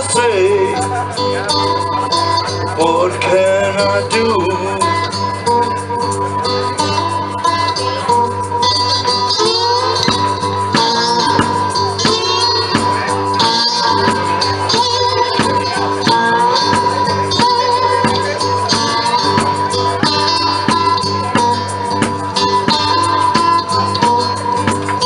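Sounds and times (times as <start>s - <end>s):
blues band playing: 0.0s - 25.0s
lead guitar notes: 0.0s - 25.0s.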